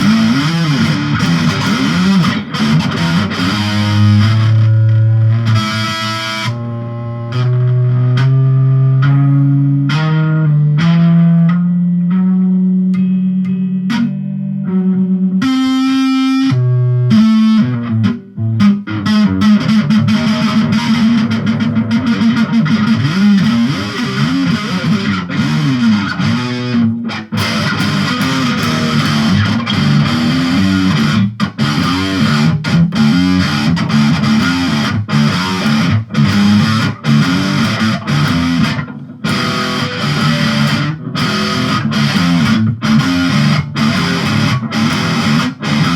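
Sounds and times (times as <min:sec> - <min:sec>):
distorted electric guitar shredding: 0:00.0 - 0:45.9.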